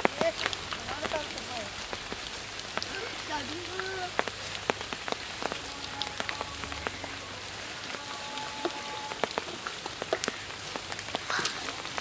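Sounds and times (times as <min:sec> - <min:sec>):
rain hissing on wet ground: 0:00.0 - 0:12.0
raindrop ticks: 0:00.0 - 0:12.0.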